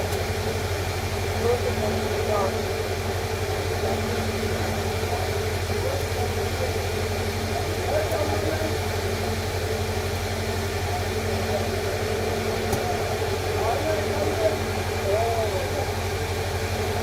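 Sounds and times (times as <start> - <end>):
faint indistinct voices: 0.0 - 17.0
low mechanical hum: 0.0 - 17.0.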